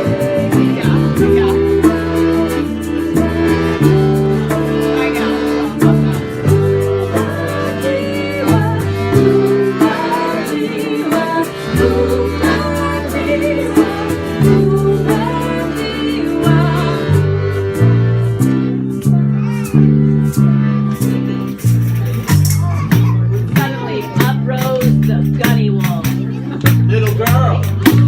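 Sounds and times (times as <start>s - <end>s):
guitar: 0.0s - 28.0s
live ensemble music: 0.0s - 28.0s
steady beat: 0.0s - 28.0s
sustained bass notes: 0.0s - 28.0s
vibrato melody: 0.0s - 28.0s.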